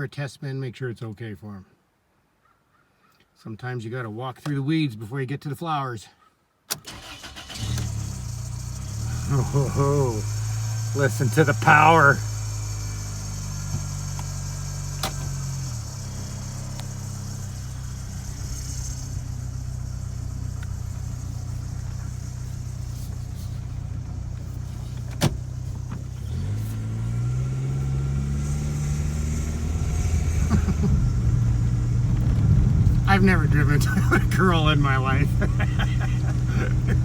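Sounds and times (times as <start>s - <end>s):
car engine running: 6.9s - 37.0s.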